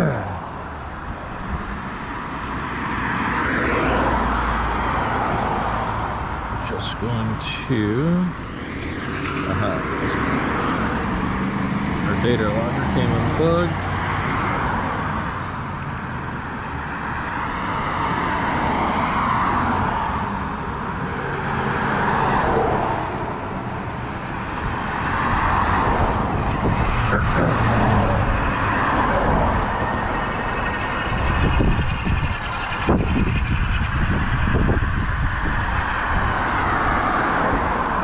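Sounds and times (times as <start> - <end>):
riding noise: 3.3 - 16.6, 19.5 - 38.0.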